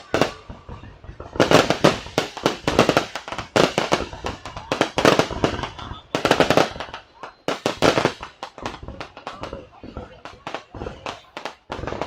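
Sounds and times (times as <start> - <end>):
fireworks bangs with echo: 0.0 - 12.0.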